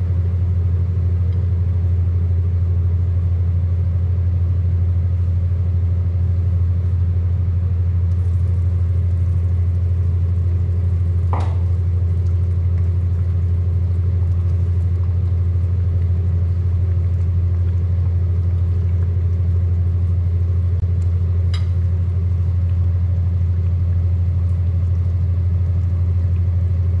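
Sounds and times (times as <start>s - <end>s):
loud low hum: 0.0s - 27.0s.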